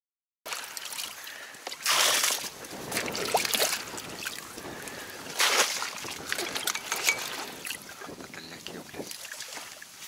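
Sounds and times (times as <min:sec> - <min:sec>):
rustling and scraping in boat: 0:01.6 - 0:10.0.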